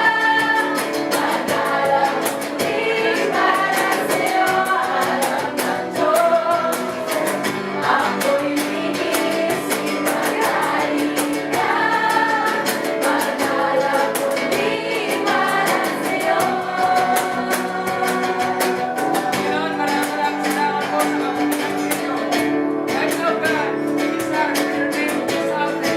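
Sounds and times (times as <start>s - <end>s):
voices singing worship song: 0.0s - 23.2s
instruments with steady beat: 0.0s - 24.2s.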